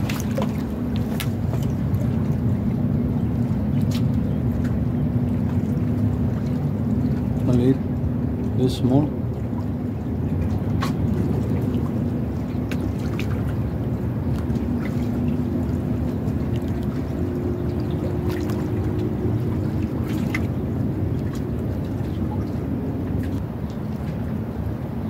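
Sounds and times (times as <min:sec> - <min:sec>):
low rumble: 0:00.0 - 0:25.0
seawater sloshing among concrete blocks: 0:00.0 - 0:25.0.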